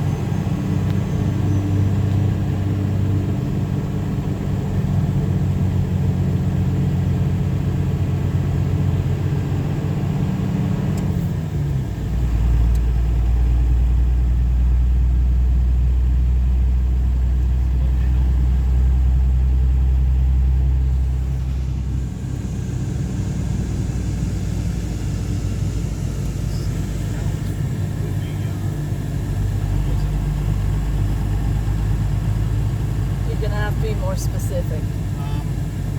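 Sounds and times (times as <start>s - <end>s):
road noise: 0.0s - 35.9s
vehicle engine: 0.0s - 35.9s.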